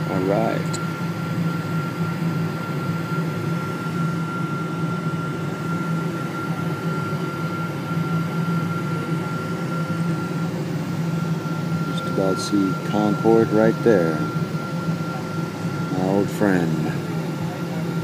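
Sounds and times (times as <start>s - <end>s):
cabin air conditioning: 0.0s - 18.0s
jet engine drone: 0.0s - 18.0s
thin steady whine: 0.0s - 18.0s.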